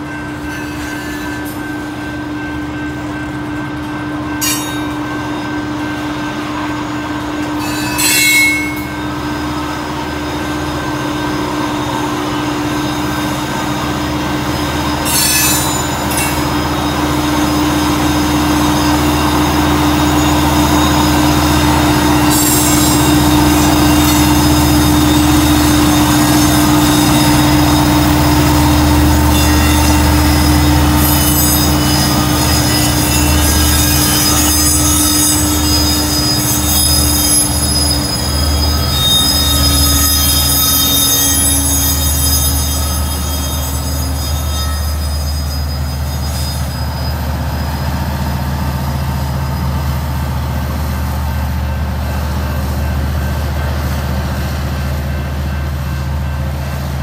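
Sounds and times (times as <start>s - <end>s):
steel wheels squealing: 0.0s - 57.0s
train rumbling: 0.0s - 57.0s.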